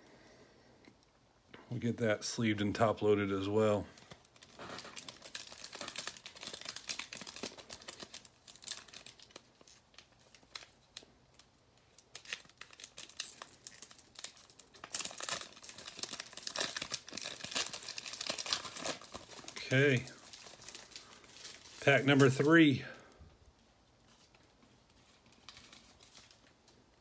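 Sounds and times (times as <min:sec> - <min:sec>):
foil wrapper crinkling and tearing: 0:03.6 - 0:23.2, 0:24.0 - 0:27.0.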